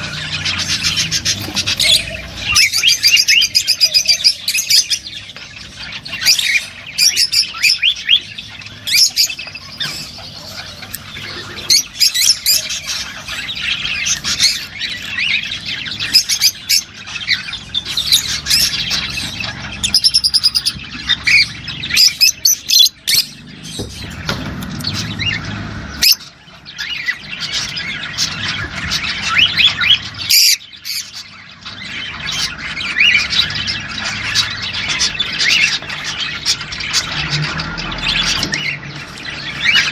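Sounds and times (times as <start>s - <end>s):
lovebirds shrill chatter: 0.0s - 39.9s.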